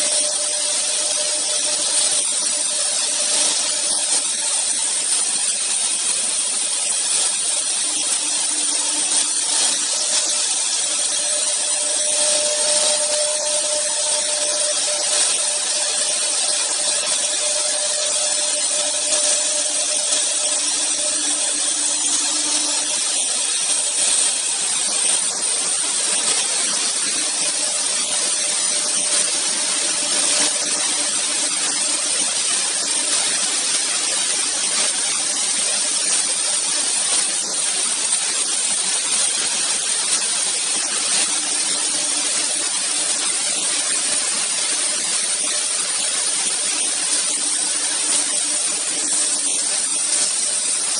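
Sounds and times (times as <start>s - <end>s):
router cutting hiss: 0.0s - 50.9s.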